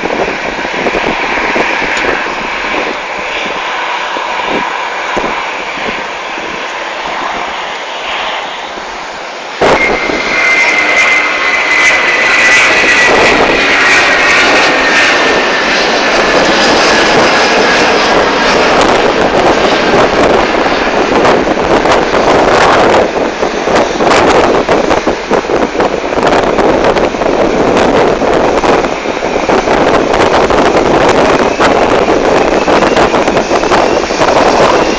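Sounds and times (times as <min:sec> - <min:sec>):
jet aircraft passing: 0:00.0 - 0:34.9.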